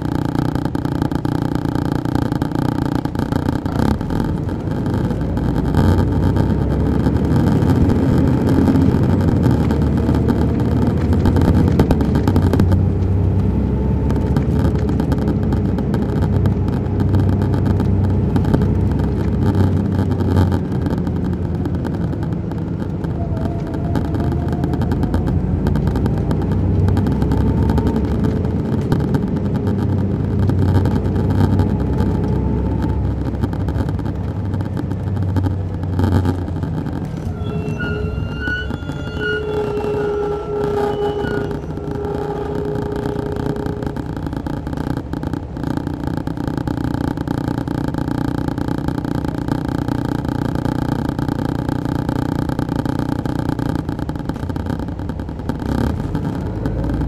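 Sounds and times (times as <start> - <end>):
bus diesel engine rumble: 0.0 - 57.0
transmission whine: 0.0 - 57.0.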